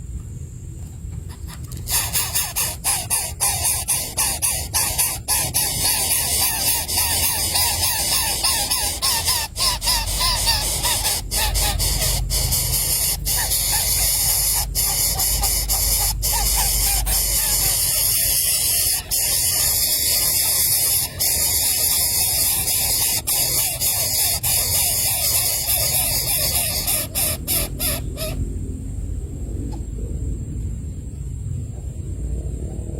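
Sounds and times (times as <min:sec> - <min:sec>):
loud steady hiss: 0:00.0 - 0:29.5
crow nestlings squealing: 0:01.2 - 0:28.4.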